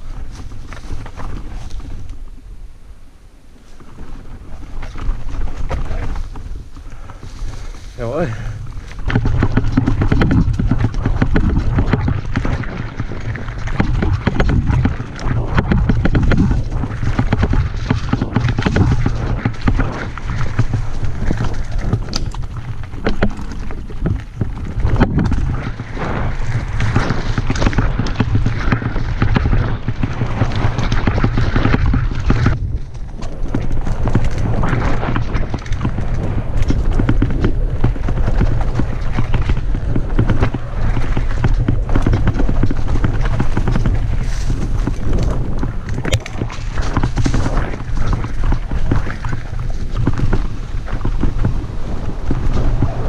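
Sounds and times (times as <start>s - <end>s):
bike clattering and rattling: 0.0s - 2.3s, 3.6s - 53.0s
tyres crunching over ground: 0.0s - 2.5s, 3.6s - 53.0s
wind rumble on microphone: 0.0s - 53.0s.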